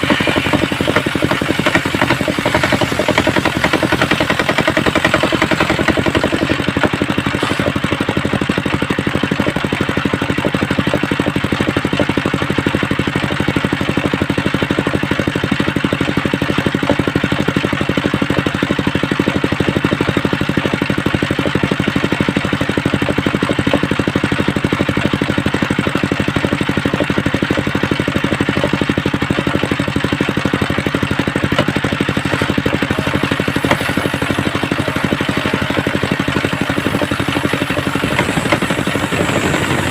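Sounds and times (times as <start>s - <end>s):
engine-driven circular saw running: 0.0s - 39.9s.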